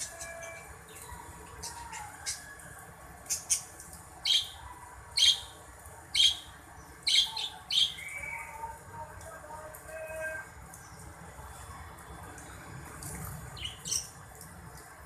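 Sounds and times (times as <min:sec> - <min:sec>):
faint background bird calls: 0:00.0 - 0:14.9.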